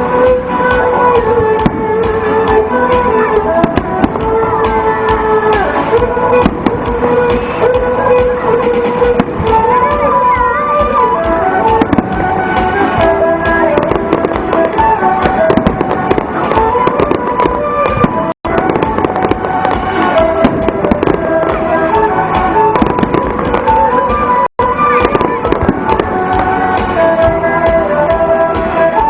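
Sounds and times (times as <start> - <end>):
loud music with held melody: 0.0 - 29.0
fireworks bursting and crackling: 1.2 - 10.4, 11.4 - 27.4.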